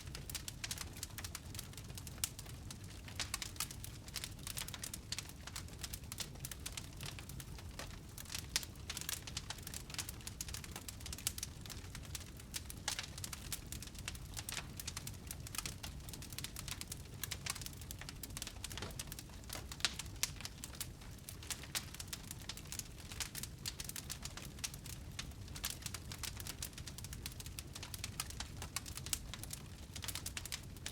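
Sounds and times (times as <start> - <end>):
fire crackling and popping: 0.0 - 30.9
low rumble of flames: 0.0 - 30.9.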